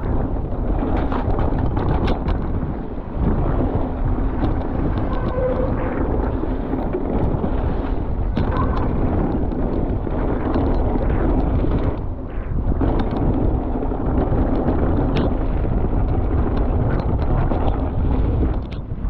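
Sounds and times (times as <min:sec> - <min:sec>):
tyres rolling on dirt: 0:00.0 - 0:18.6
bike rattling over bumps: 0:00.0 - 0:19.0
wind on microphone: 0:00.0 - 0:19.0.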